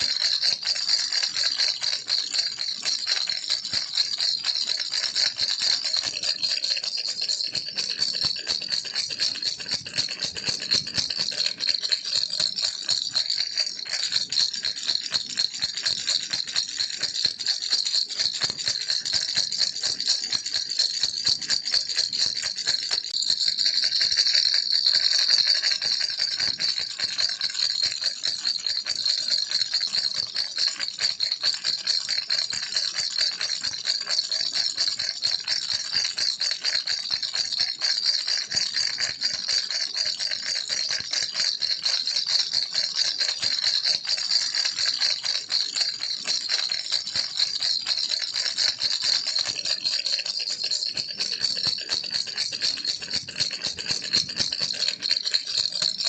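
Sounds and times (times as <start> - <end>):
baby rattle shaken: 0.0 - 37.0, 37.6 - 56.0.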